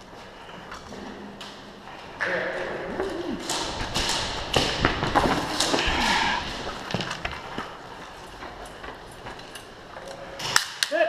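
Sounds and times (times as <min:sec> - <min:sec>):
knocks taps and clatter: 0:00.6 - 0:10.7.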